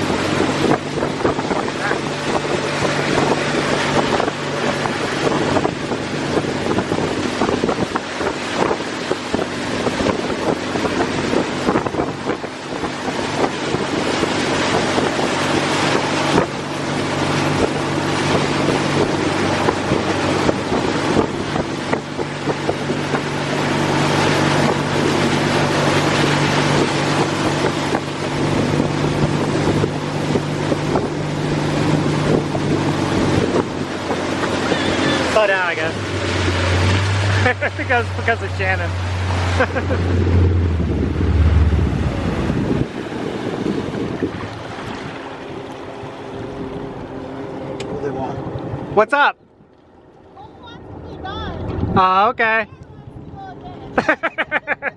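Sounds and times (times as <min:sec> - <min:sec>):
wind noise on microphone: 0:00.0 - 0:49.0, 0:50.6 - 0:54.9
engine running: 0:00.0 - 0:52.0.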